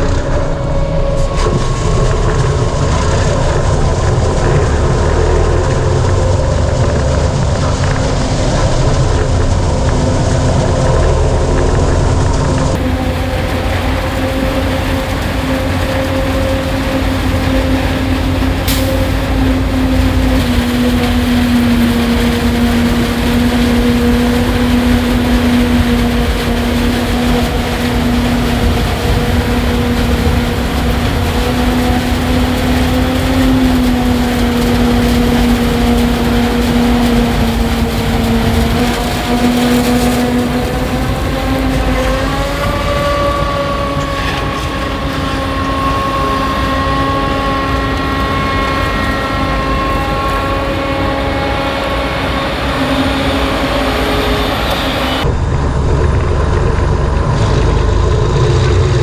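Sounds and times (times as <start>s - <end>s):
harvest machinery droning: 0.0s - 59.0s.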